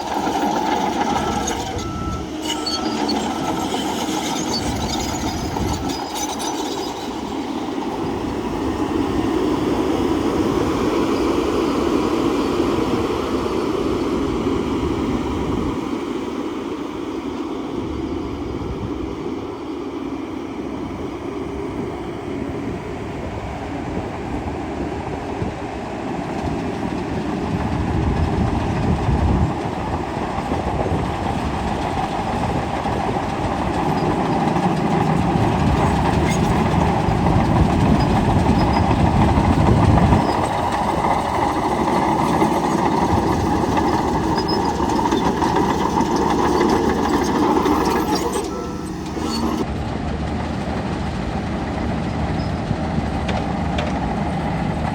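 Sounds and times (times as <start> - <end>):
steel tracks clattering: 0.0 - 16.2, 25.6 - 54.9
diesel engine under load: 0.0 - 54.9.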